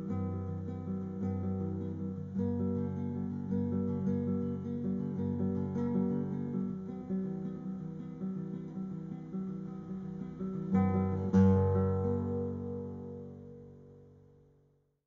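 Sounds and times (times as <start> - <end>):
acoustic guitar strummed chords: 0.0 - 14.5.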